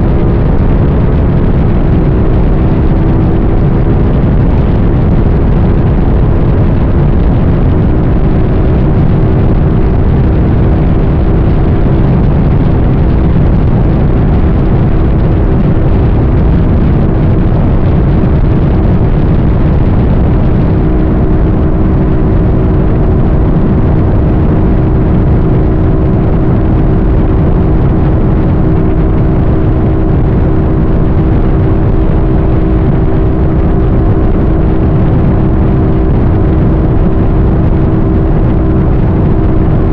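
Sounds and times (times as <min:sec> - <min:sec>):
road and wind noise: 0:00.0 - 0:39.9
vehicle engine drone: 0:00.0 - 0:39.9.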